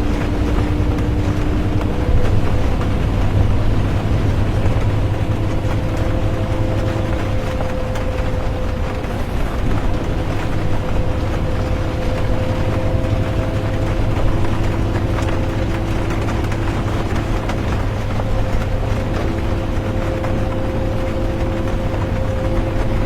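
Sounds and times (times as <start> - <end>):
bus engine and road rumble: 0.0 - 23.0
drivetrain hum: 0.0 - 23.0
rain on bus: 0.0 - 23.0.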